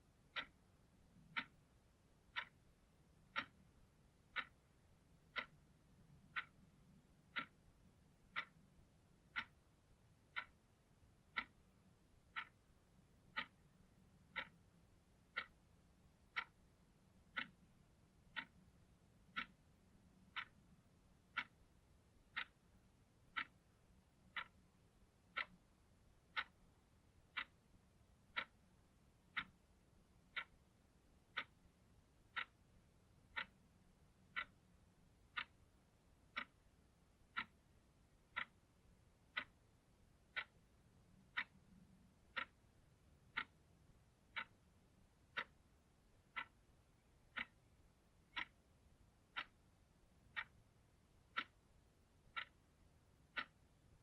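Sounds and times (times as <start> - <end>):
analog clock ticking: 0.0 - 54.0.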